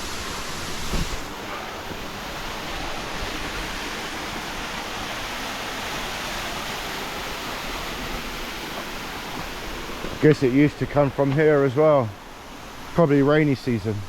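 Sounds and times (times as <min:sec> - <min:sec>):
waterfall rushing over rock: 0:00.0 - 0:14.0.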